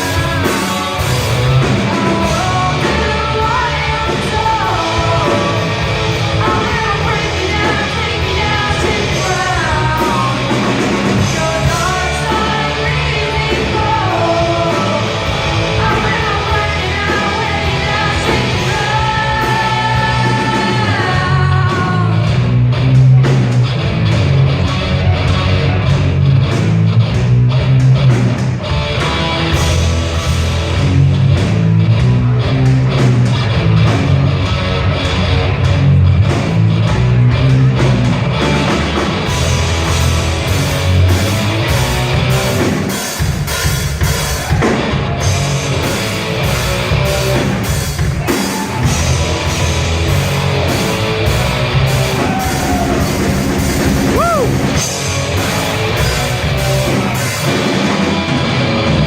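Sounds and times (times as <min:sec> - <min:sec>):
hard rock song: 0:00.0 - 0:59.0.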